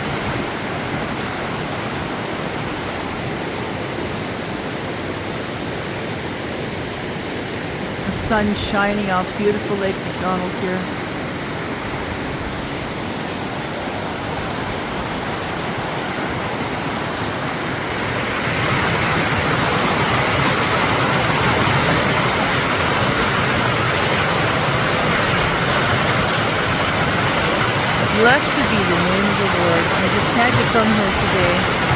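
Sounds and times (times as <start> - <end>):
creek water rushing: 0.0 - 31.9.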